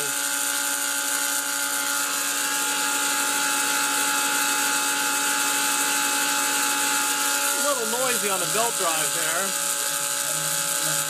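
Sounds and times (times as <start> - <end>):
milling machine spindle whine: 0.0 - 11.0
noisy belt drive: 0.0 - 11.0.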